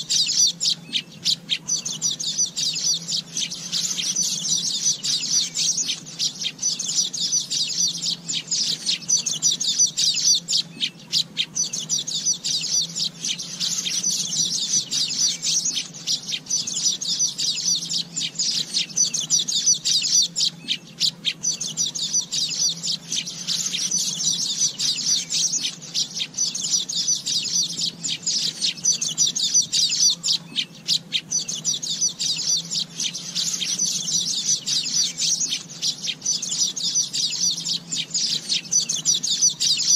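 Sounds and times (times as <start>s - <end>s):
birds chattering chorus: 0.0s - 39.9s
faint low hum: 0.0s - 39.9s.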